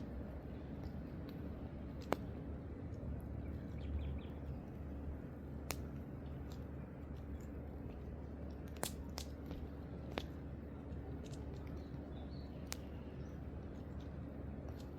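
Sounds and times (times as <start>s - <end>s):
low fire rumble: 0.0s - 14.9s
wood fire crackling: 0.5s - 3.5s, 4.4s - 14.9s.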